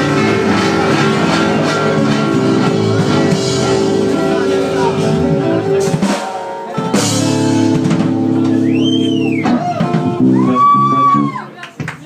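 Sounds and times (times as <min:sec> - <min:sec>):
live band playing: 0:00.0 - 0:11.9
drum kit: 0:00.0 - 0:12.0
guitar: 0:00.0 - 0:12.0.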